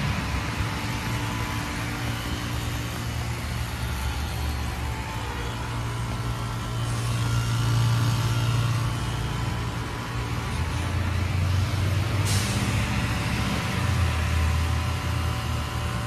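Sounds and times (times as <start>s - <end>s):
compressors humming: 0.0s - 16.0s.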